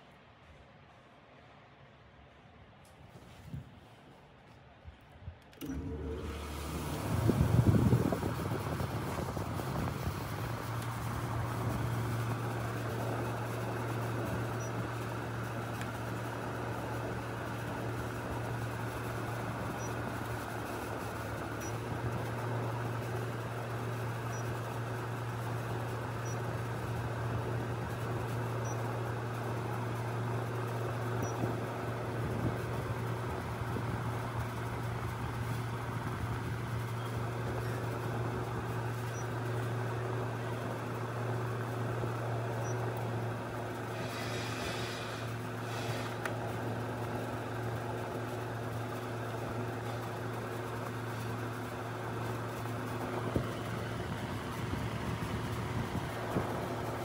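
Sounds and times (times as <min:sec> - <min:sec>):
fan blowing air: 0:05.2 - 0:57.0
air conditioner humming: 0:05.6 - 0:57.0.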